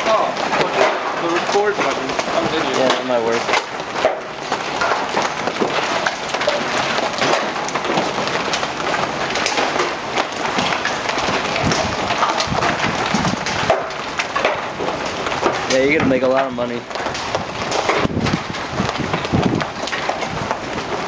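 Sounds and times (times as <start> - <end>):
hailstones clattering: 0.0 - 21.0.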